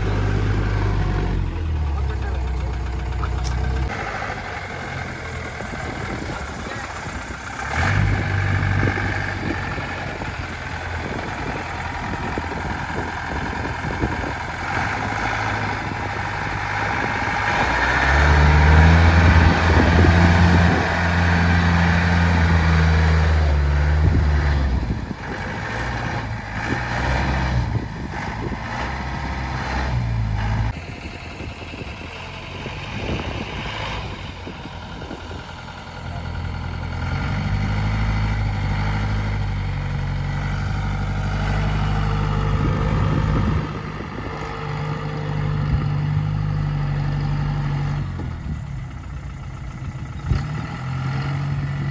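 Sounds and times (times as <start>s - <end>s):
off-road vehicle engine revving: 0.0s - 51.9s.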